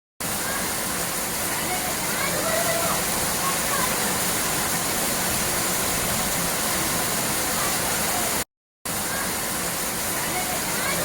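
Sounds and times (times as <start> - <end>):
flowing water rushing: 0.2 - 11.0.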